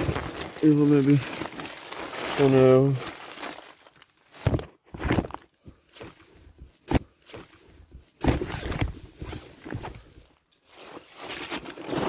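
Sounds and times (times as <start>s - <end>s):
rustling inside a tent: 0.0s - 12.0s.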